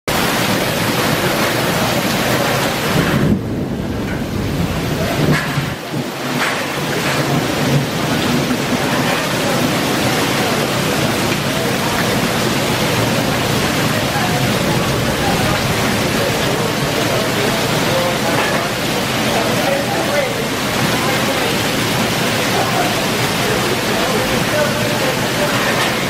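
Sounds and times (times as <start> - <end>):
heavy rain pouring: 0.1 - 26.0
water splashing onto tiles: 0.1 - 26.0.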